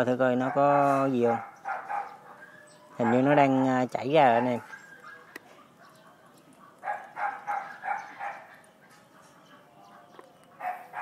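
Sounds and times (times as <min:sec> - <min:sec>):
faint dog barking: 0:00.4 - 0:03.6, 0:04.2 - 0:11.0.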